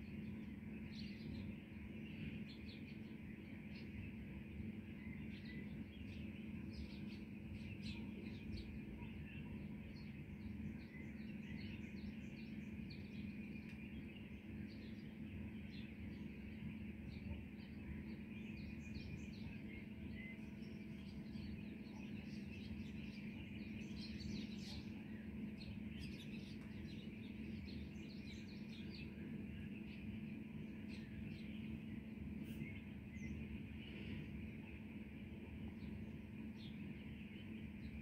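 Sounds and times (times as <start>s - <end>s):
birds chirping: 0.0s - 38.0s
steady low hum: 0.0s - 38.0s.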